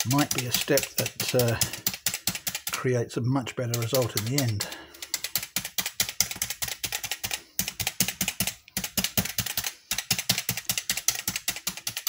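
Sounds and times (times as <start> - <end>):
meat tenderizer needles clicking: 0.0 - 2.8, 3.6 - 12.0.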